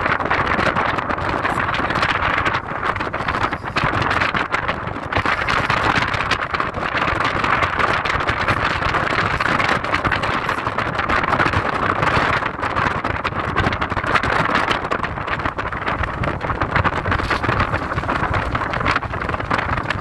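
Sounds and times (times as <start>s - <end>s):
car tyre and road noise: 0.0s - 20.0s.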